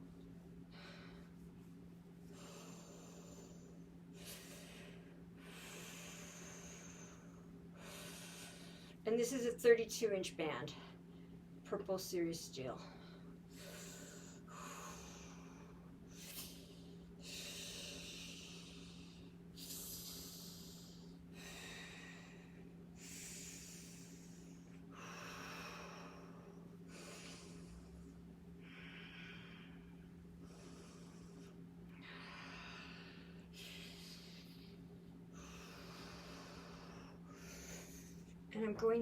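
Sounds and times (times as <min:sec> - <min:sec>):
low electrical hum: 0:00.0 - 0:39.0
woman breathing with effort: 0:00.6 - 0:09.0, 0:12.8 - 0:38.5.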